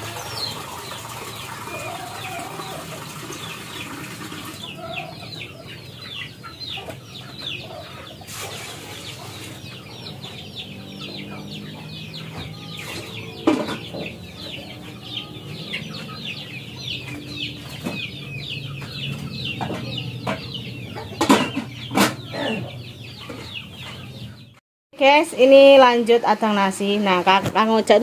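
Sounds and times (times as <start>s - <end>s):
chickens clucking: 0.0s - 24.6s.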